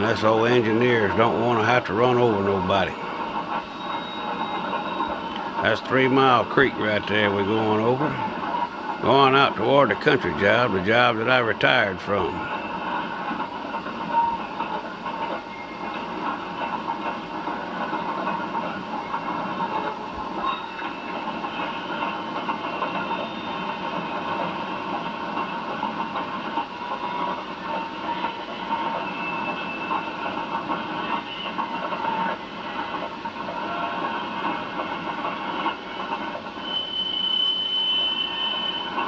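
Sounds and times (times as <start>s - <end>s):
train running on track: 0.0s - 39.0s.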